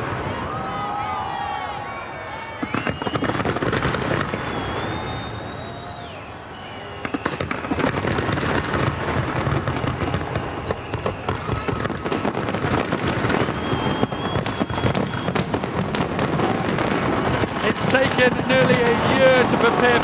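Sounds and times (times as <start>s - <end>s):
fireworks bangs and crackles: 0.0s - 1.8s, 2.4s - 20.0s.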